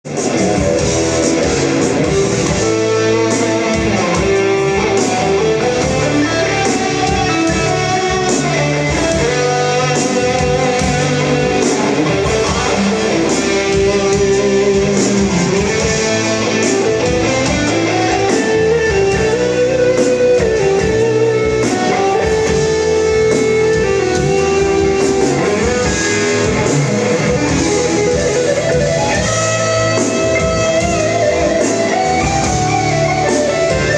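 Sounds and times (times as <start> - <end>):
overdriven electric guitar solo: 0.0 - 33.9.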